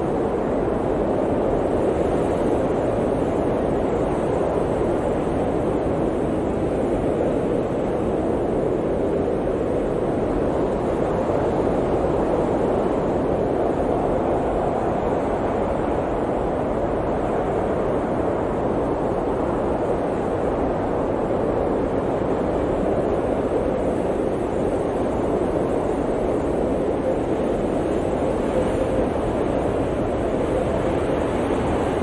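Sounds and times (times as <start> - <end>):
blizzard wind blowing: 0.0 - 32.0.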